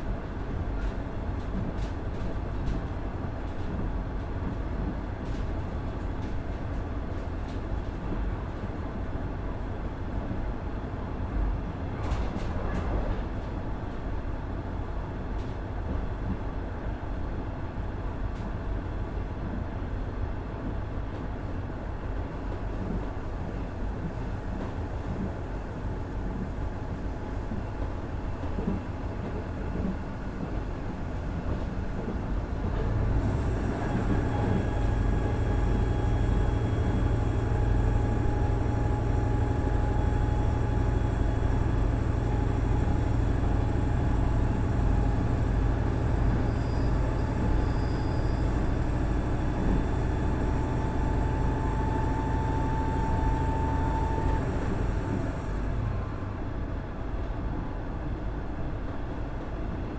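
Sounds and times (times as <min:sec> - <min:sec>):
railcar diesel engine droning: 0:00.0 - 0:59.7
wheels rumbling on rails: 0:00.0 - 0:59.9.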